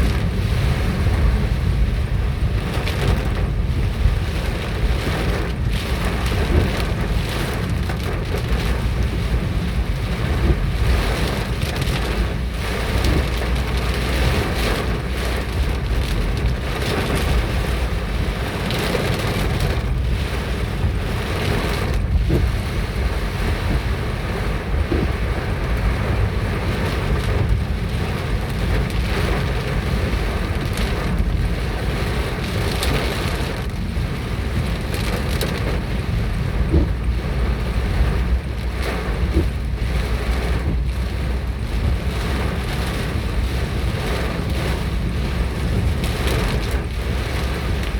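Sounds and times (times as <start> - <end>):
hail and rain pelting down: 0.0 - 47.9
wind rumbling on microphone: 0.0 - 47.9.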